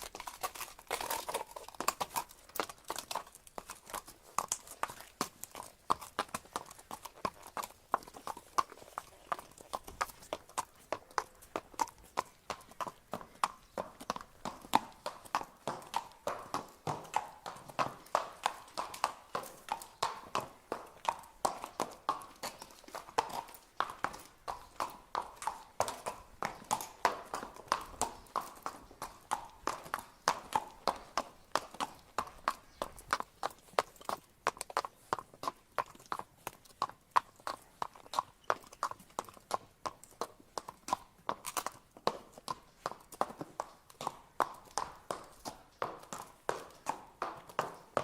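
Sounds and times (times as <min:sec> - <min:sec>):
horse hooves clip-clopping: 0:00.0 - 0:48.0.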